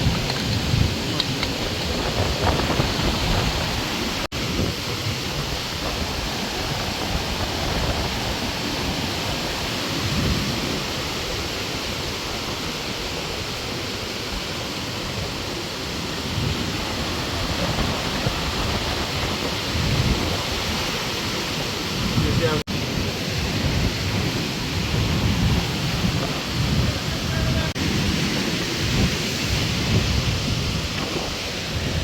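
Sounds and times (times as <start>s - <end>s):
strong wind on microphone: 0.0s - 32.0s.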